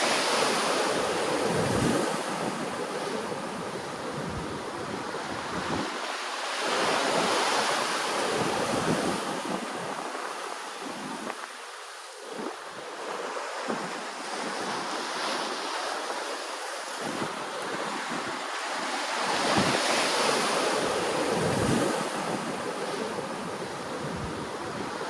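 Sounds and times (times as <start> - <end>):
ocean surf washing in: 0.0 - 25.0
wind on microphone: 0.0 - 25.0.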